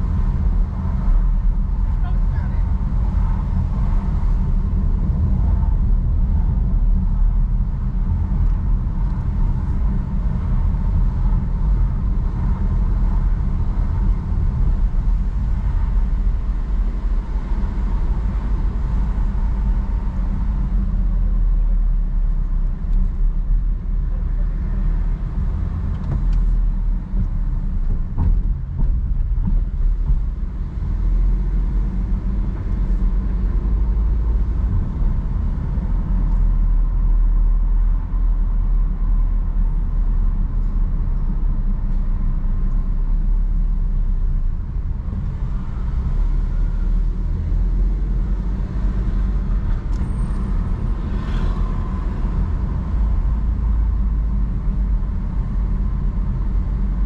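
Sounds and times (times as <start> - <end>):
car engine rumble: 0.0 - 57.0
tyre road noise: 0.0 - 57.0.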